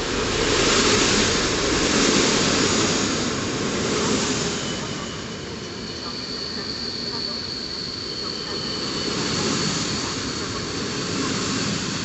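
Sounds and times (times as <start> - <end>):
high-pitched train squeal: 0.0 - 12.0
train wheels rumbling on rails: 0.0 - 12.0.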